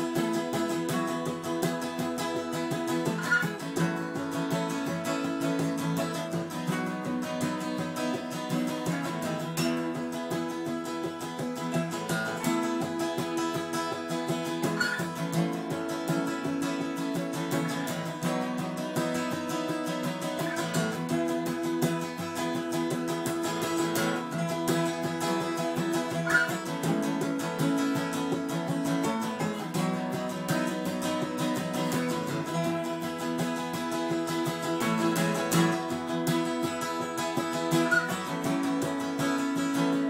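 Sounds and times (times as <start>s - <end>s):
acoustic guitars strumming: 0.0s - 40.0s.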